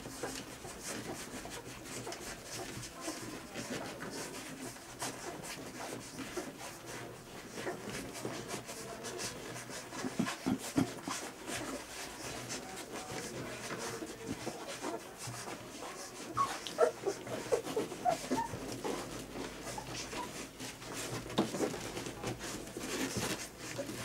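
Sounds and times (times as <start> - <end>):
puppies suckling and grunting: 0.0 - 24.0.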